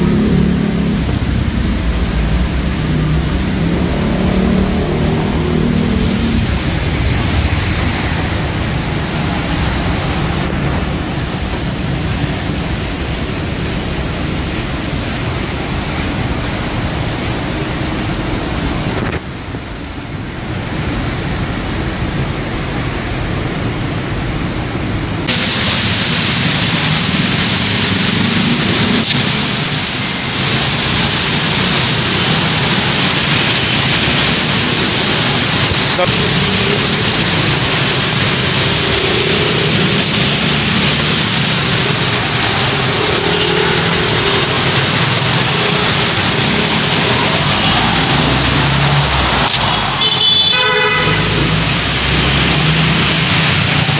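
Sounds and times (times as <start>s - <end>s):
rushing rain: 0.0s - 53.9s.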